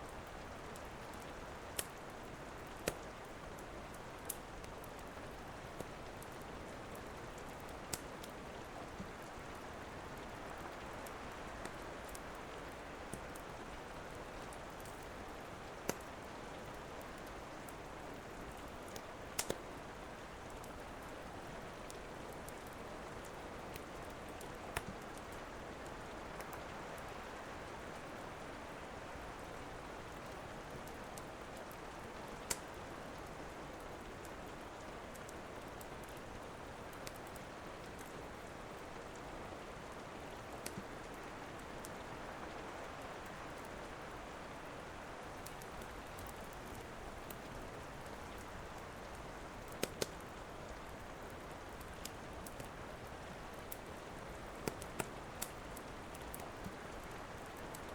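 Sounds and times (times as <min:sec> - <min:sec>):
steady rain: 0:00.0 - 0:57.9
wood fire crackling: 0:00.1 - 0:57.9.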